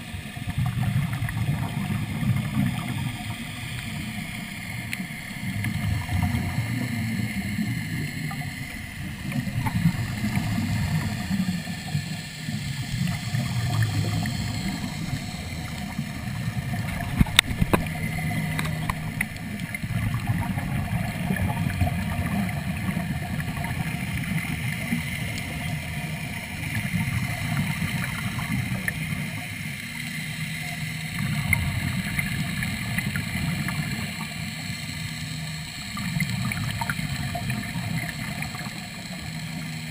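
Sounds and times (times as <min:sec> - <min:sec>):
bubbles gurgling underwater: 0:00.0 - 0:35.0, 0:35.6 - 0:39.9
faint steady hum: 0:00.0 - 0:39.9.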